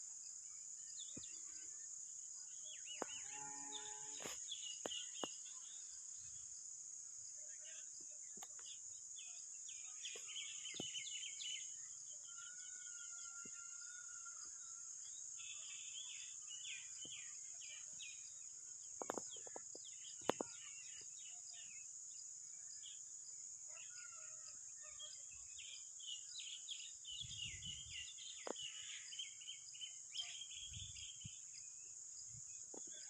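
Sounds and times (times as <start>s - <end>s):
high insect-like hiss: 0.0s - 33.0s.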